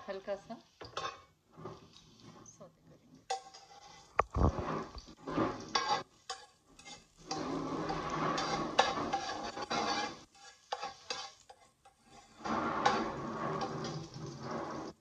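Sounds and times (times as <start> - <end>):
garlic sizzling in oil: 0.0 - 15.0
metal spatula scraping a frying pan: 0.1 - 15.0.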